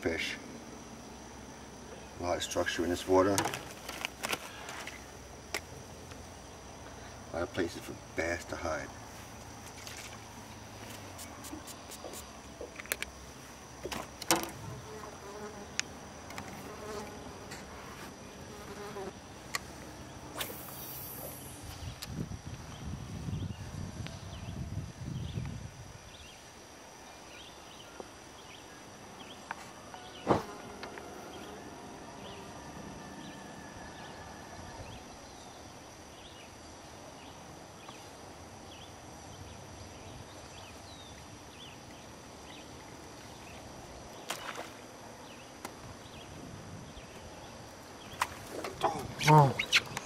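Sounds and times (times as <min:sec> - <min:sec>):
background hiss: 0:00.0 - 0:50.0.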